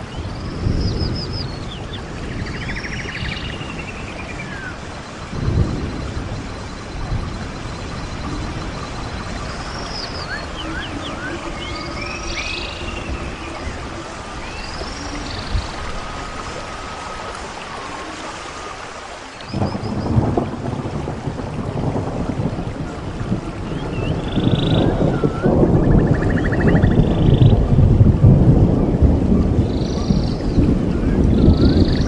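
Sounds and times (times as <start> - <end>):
songbirds chirping: 0.0 - 21.2, 21.8 - 27.7, 28.6 - 32.0
steady rushing noise: 0.0 - 32.0.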